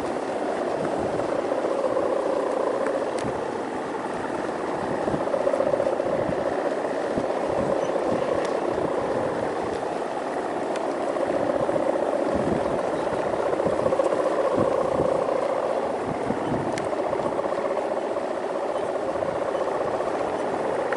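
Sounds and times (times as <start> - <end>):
faint clicks: 0.0 - 20.9
wavering drone: 0.0 - 20.9
wind buffeting: 0.0 - 20.9.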